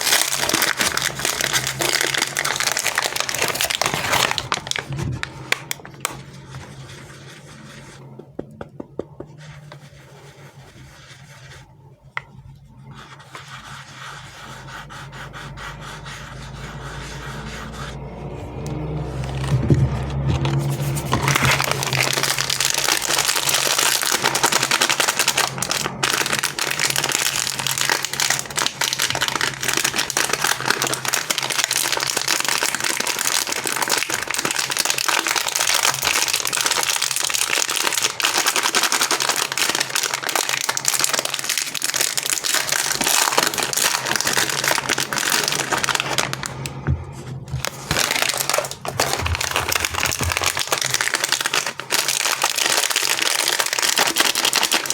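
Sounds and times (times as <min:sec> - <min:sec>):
candy wrappers crinkling: 0:00.0 - 0:08.0, 0:16.3 - 0:54.9.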